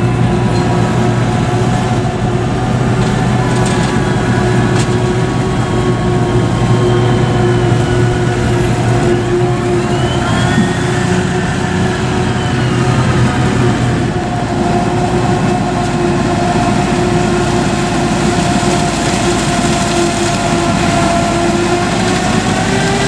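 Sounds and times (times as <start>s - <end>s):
faint whine: 0.0s - 21.4s
tractor diesel engine under load: 0.0s - 23.0s.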